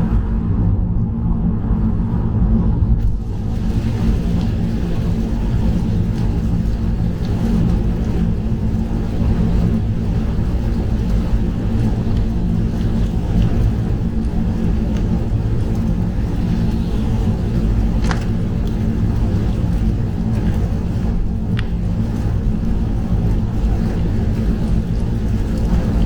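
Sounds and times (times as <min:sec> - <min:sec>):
hiss of rain and spray: 0:03.2 - 0:26.0.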